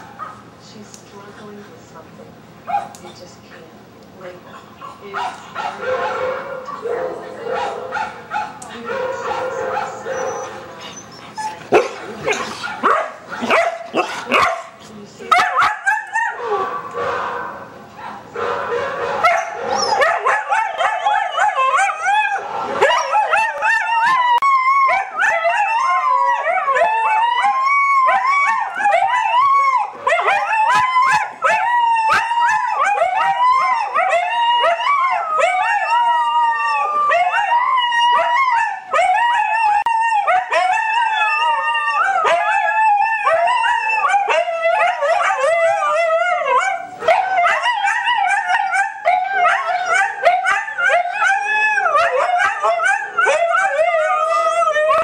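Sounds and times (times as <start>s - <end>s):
huskies howling: 5.7s - 14.4s, 19.2s - 55.0s.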